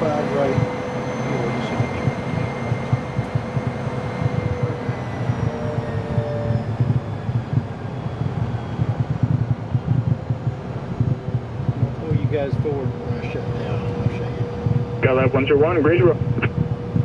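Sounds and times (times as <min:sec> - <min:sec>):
jet engines rumbling with high whine: 0:00.0 - 0:17.0.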